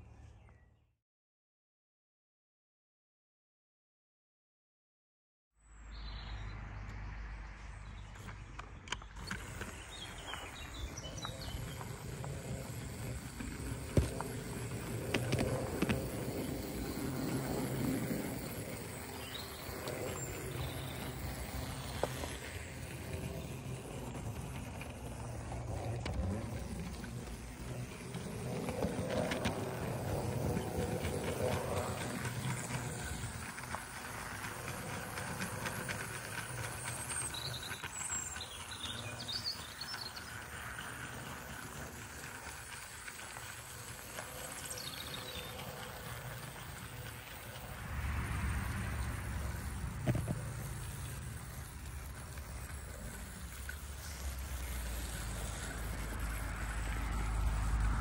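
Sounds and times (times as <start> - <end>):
wheels rolling on rails: 6.9 - 58.0
model train motor humming: 8.2 - 58.0.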